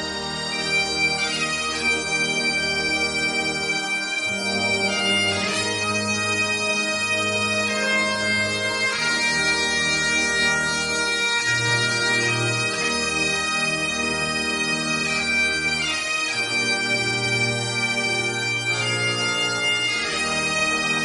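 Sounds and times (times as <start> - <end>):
bagpipes playing slow melody: 0.0 - 21.0.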